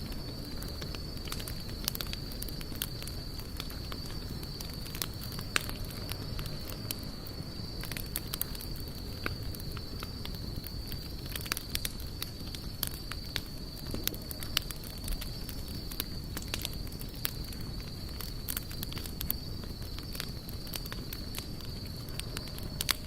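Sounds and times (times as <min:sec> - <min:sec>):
campfire crackling and popping: 0:00.0 - 0:23.0
low rumble of flame: 0:00.0 - 0:23.0.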